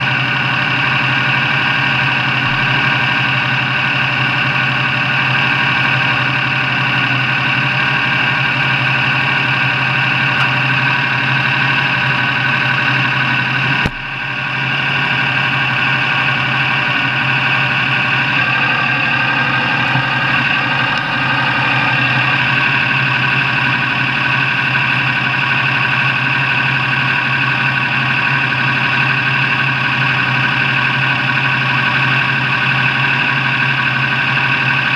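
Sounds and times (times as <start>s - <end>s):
engine running steadily: 0.0s - 34.9s.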